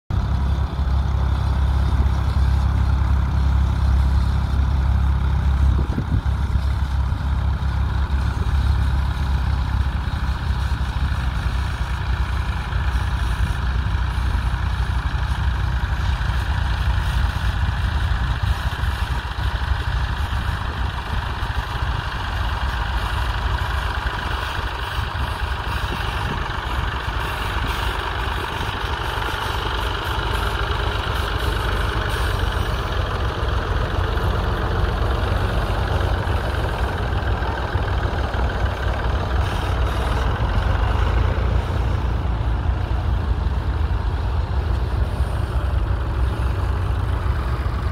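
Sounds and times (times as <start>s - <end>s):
tractor diesel engine under load: 0.1s - 47.9s.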